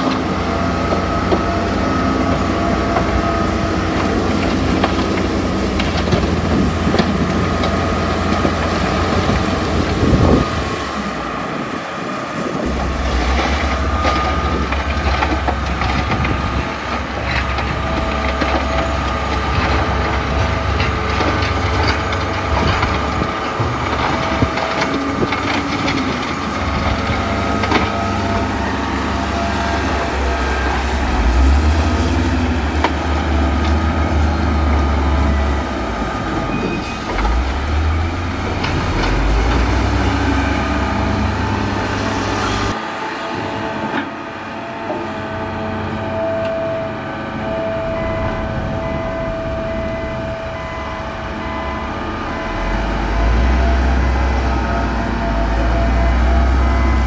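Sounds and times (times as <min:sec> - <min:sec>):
bulldozer diesel engine under load: 0:00.0 - 0:57.0
steel tracks clattering: 0:00.0 - 0:57.0.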